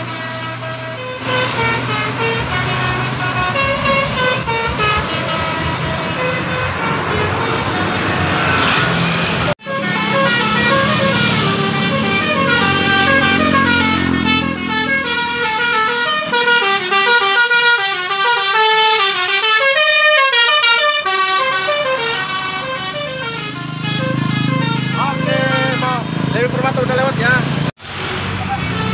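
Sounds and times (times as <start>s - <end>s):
multi-tone musical bus horn: 0.0s - 26.4s, 27.9s - 28.9s
traffic noise: 0.0s - 28.9s.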